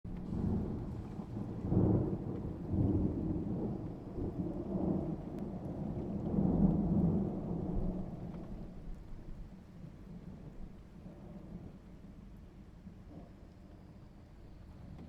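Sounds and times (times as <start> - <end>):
rumbling thunder: 0.1 - 12.3
faint steady rain: 0.1 - 15.0.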